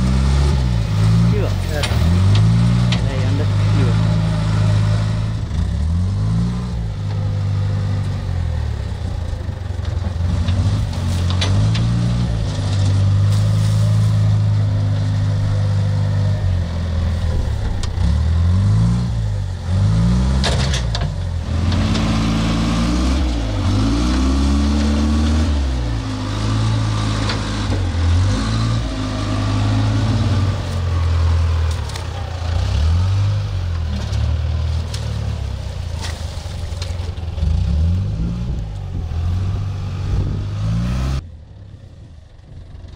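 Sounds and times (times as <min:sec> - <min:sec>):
diesel engine revving: 0:00.0 - 0:41.8.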